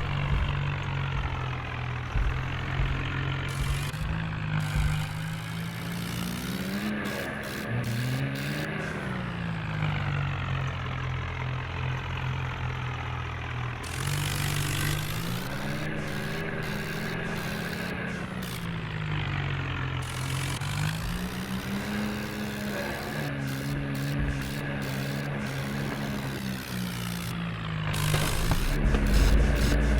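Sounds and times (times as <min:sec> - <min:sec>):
tractor diesel engine revving: 0:00.0 - 0:29.9.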